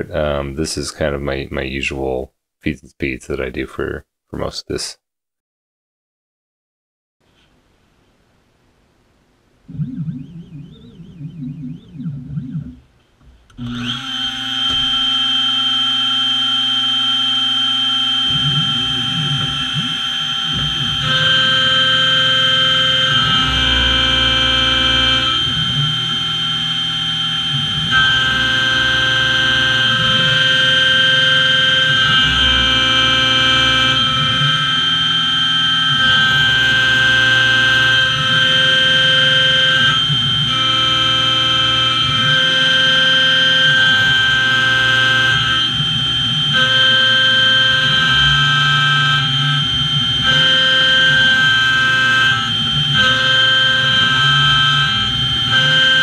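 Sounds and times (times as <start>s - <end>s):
mill spindle whining: 9.7s - 12.9s, 13.5s - 56.0s.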